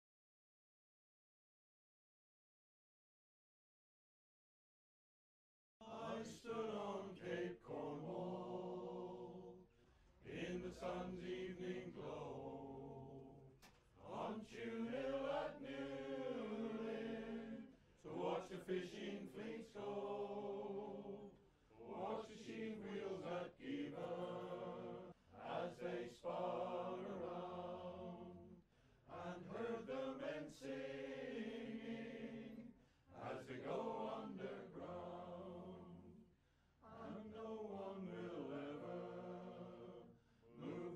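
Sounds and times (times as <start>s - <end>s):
chanting voices: 5.8s - 40.9s.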